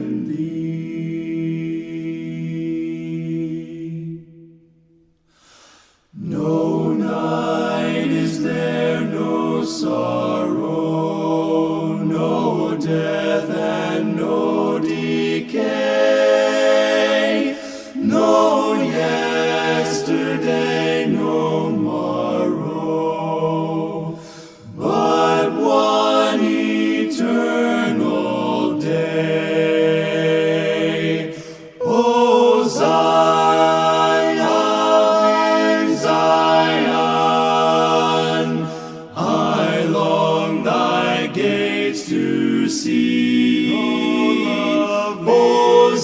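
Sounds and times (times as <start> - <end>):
group singing a hymn a cappella: 0.0 - 4.7, 6.1 - 46.0.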